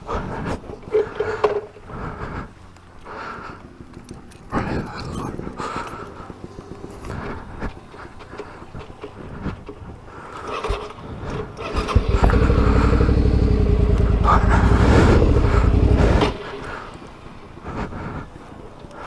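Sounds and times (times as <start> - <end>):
motorcycle engine rumbling: 0.6 - 18.9.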